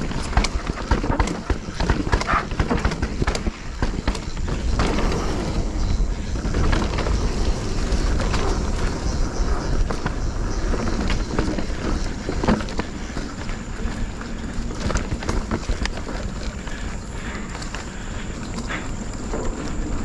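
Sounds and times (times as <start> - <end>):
bike rattling: 0.0 - 20.0
bike tyres rolling over roots: 0.0 - 20.0
wind rumble on microphone: 0.0 - 20.0.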